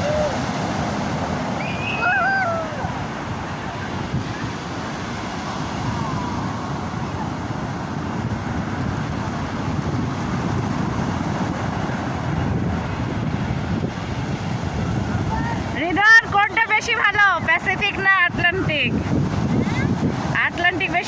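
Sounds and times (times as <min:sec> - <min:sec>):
surf washing onto beach: 0:00.0 - 0:21.0
wind buffeting microphone: 0:00.0 - 0:21.0.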